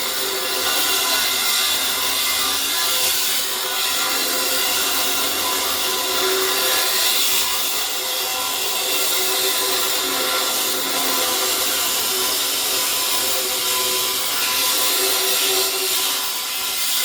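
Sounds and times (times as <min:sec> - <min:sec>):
power saw cutting steel: 0:00.0 - 0:17.0.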